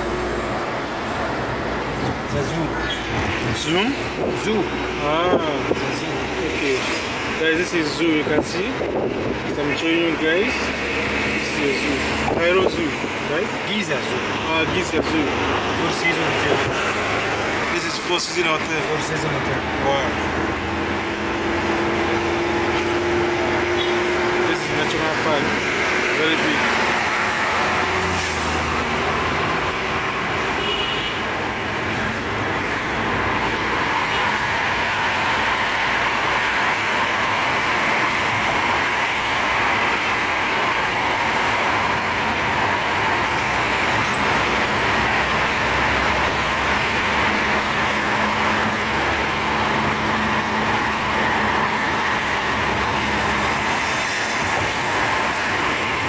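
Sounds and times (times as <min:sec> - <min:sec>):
car road noise from inside: 0:00.0 - 0:30.6, 0:31.2 - 0:56.0.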